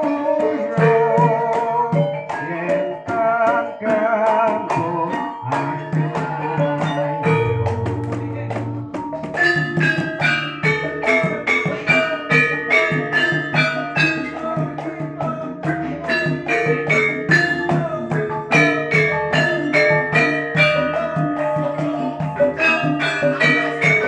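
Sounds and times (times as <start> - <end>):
gamelan ensemble playing: 0.0 - 24.0.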